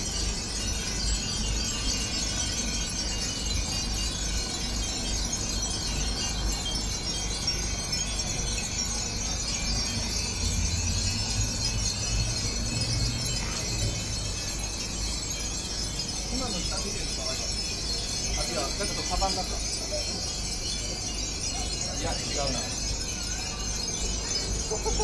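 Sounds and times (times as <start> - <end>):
wind chimes tinkling: 0.0 - 25.0.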